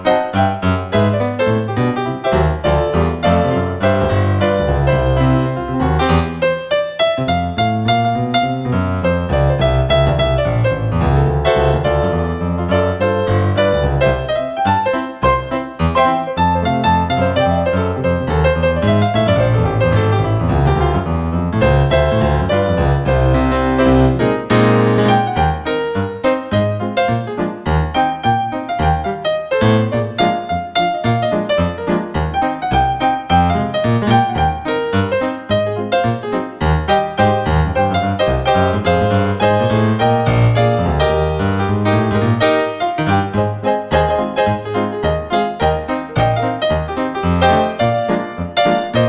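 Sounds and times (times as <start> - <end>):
gentle piano music: 0.0 - 49.0.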